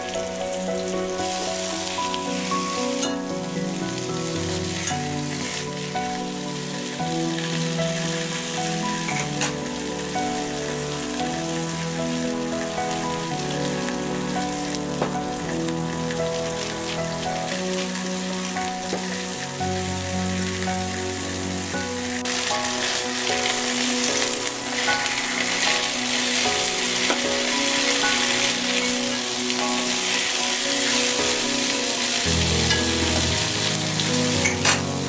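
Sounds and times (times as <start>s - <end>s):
background music sustained notes: 0.0s - 35.0s
chicken sizzling in a frying pan: 0.0s - 35.0s.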